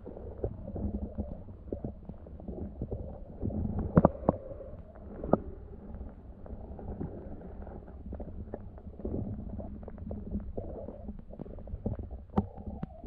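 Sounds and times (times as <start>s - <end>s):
underwater rumble: 0.0s - 13.0s.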